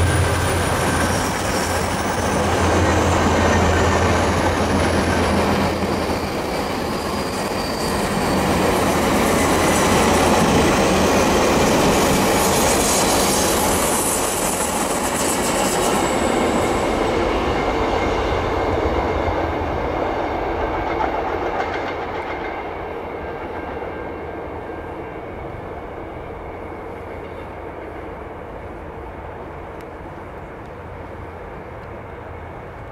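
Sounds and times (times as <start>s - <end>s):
train wheels rumbling and clicking: 0.0s - 24.3s, 26.2s - 28.2s, 29.6s - 32.9s.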